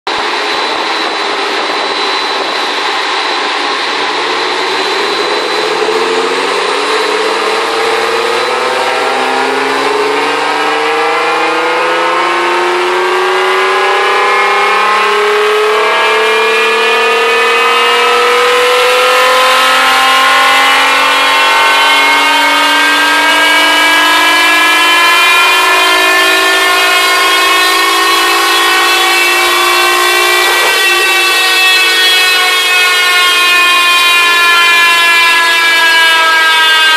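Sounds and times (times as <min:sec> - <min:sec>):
car engine revving on a dyno: 0:00.1 - 0:36.9.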